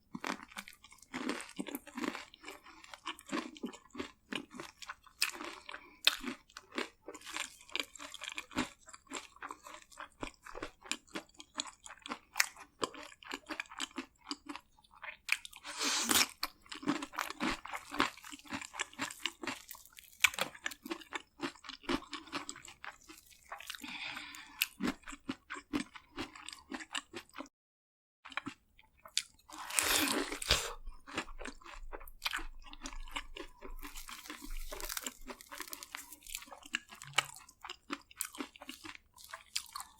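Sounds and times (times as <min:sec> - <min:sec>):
chewing crispy fried food: 0:00.0 - 0:27.5, 0:28.2 - 0:39.9.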